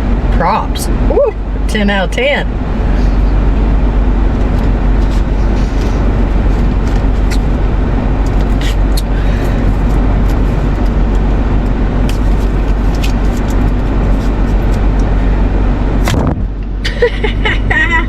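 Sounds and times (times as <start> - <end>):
car engine rumble and hiss: 0.0 - 18.0.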